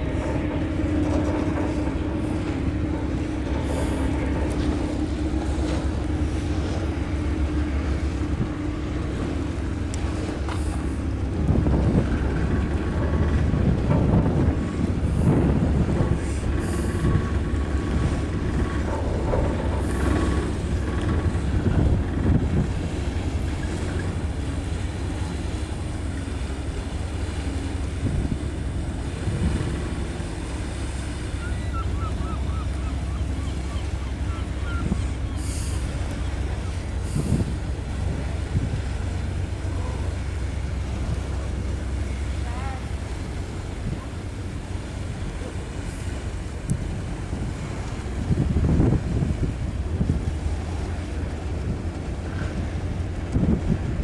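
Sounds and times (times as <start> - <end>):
ferry engines humming: 0.0 - 54.0
wind buffeting microphone: 0.0 - 54.0.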